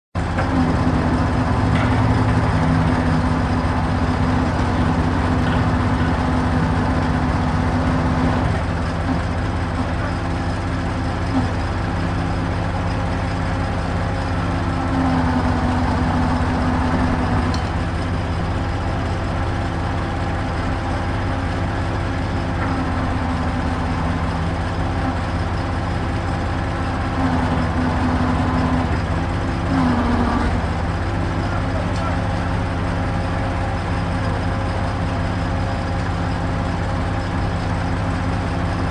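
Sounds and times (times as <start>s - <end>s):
diesel engine running: 0.2s - 38.9s.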